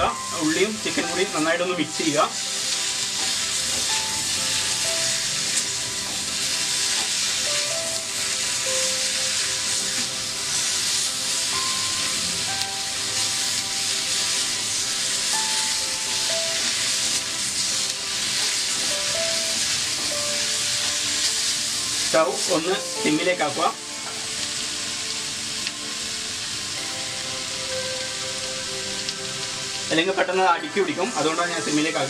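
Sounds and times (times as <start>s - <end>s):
chicken and onions sizzling: 0.0s - 32.0s
soft background music: 0.0s - 32.0s.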